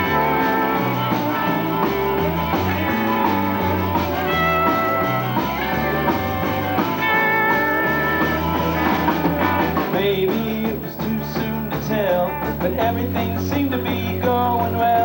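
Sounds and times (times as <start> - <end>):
bass line: 0.0 - 15.0
electric guitar line: 0.0 - 15.0
rock band playing: 0.0 - 15.0.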